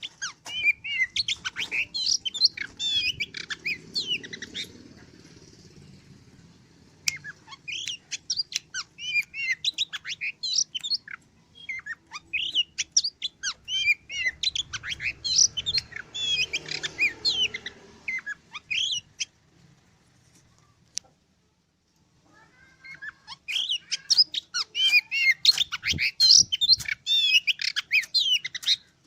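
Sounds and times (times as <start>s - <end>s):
bird singing chirps and trills: 0.0s - 19.3s, 22.4s - 29.0s.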